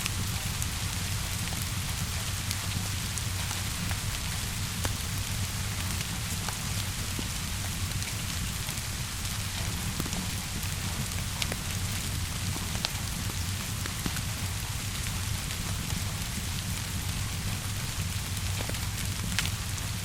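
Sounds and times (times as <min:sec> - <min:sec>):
fire crackling: 0:00.0 - 0:20.0
steady rainfall: 0:00.0 - 0:20.0.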